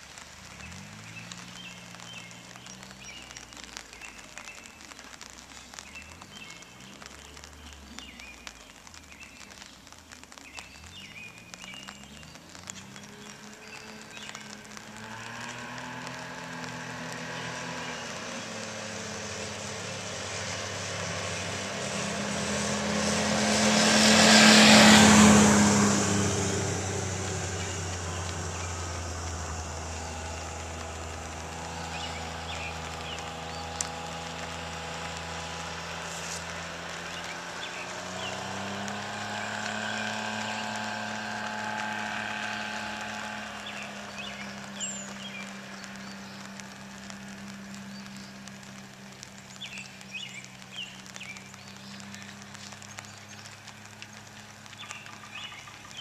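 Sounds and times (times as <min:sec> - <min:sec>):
car passing by: 0:00.0 - 0:09.0, 0:10.4 - 0:56.0
low engine hum of slow vehicles: 0:00.0 - 0:56.0.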